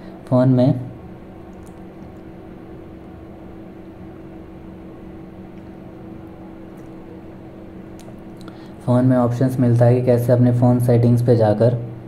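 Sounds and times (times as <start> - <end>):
background hum with faint tone: 0.0 - 12.0.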